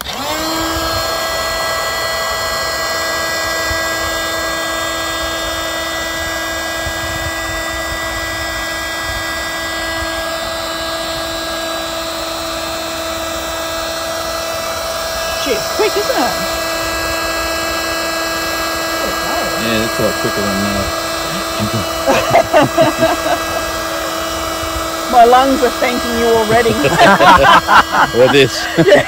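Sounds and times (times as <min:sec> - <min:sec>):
electric air inflator whining: 0:00.0 - 0:29.0.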